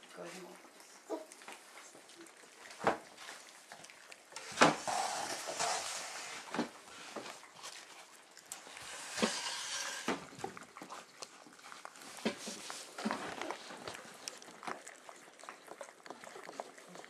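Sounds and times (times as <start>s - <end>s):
clicks and knocks of paws and tubs: 0.0s - 17.0s
puppies eating from plastic tubs: 0.0s - 17.0s.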